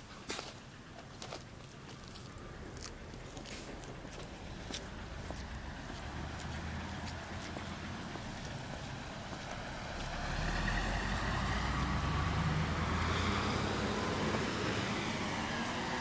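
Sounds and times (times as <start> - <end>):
vehicle engine rumble: 0.6 - 16.0.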